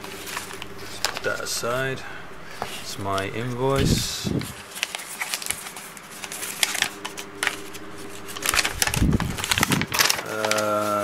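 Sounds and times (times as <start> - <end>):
paper rustling and crackling: 0.0 - 1.8, 2.5 - 11.0.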